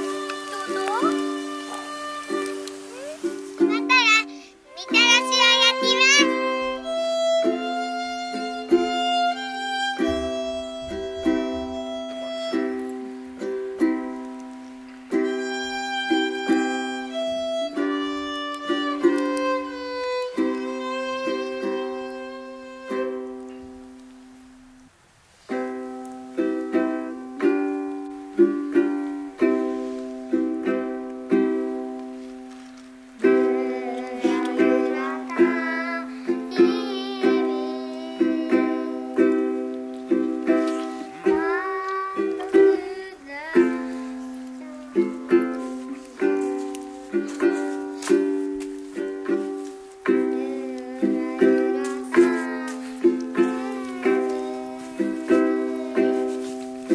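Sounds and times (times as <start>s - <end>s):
strummed string instrument chords: 0.0s - 24.8s, 25.8s - 56.9s.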